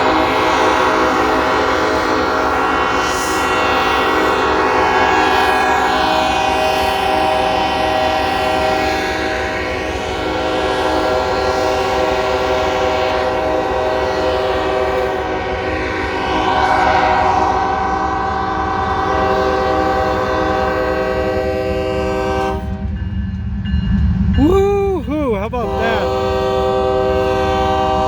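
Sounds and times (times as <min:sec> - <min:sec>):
locomotive air horns: 0:00.0 - 0:23.0, 0:25.6 - 0:28.0.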